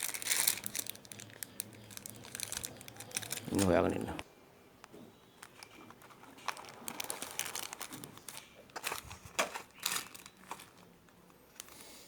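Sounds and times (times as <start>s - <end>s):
packaging crinkling and rustling: 0.0s - 4.2s, 5.2s - 11.8s.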